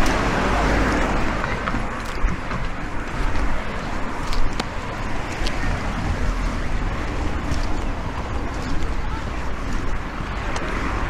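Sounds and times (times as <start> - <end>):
low wind rumble on microphone: 0.0 - 11.0.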